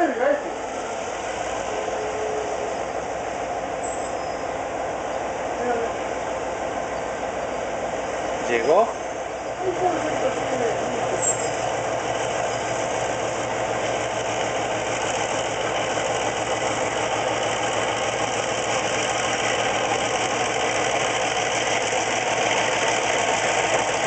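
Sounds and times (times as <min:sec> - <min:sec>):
diesel locomotive engine throbbing: 0:00.0 - 0:24.0.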